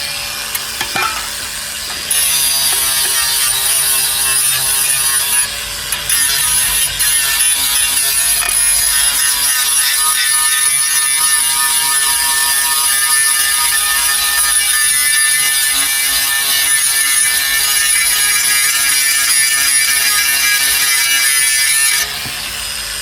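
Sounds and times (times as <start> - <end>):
angle grinder on sheet steel: 0.0 - 23.0.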